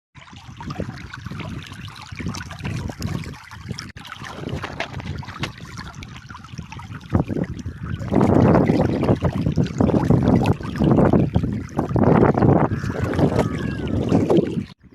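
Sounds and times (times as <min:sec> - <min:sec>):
water flowing and splashing: 0:00.2 - 0:14.9
wind rumbling on microphone: 0:00.2 - 0:14.9.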